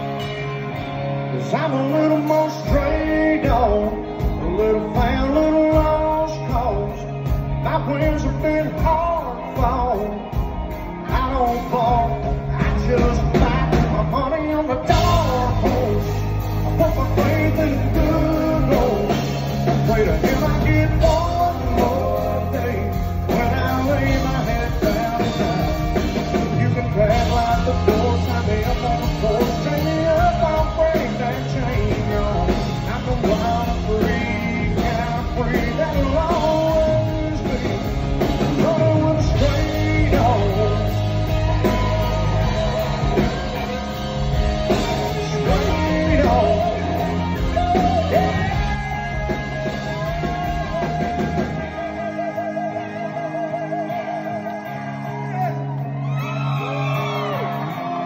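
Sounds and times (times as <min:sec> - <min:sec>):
live country-rock band: 0:00.0 - 0:58.0
person singing: 0:00.0 - 0:58.0.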